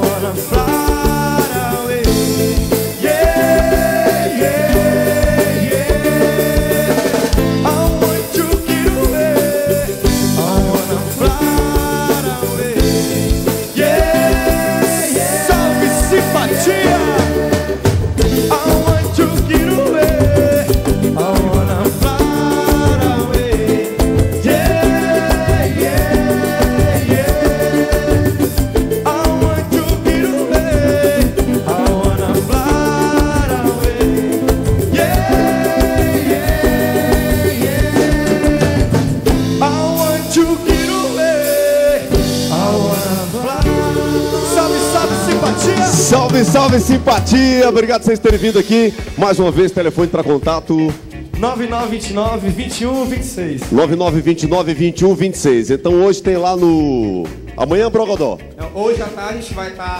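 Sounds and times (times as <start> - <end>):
person singing: 0.0 - 49.0
sustained instrumental chords: 0.0 - 49.7
percussion beat: 0.0 - 59.9
regular drumbeat: 0.0 - 59.9
samba band music: 0.0 - 59.9.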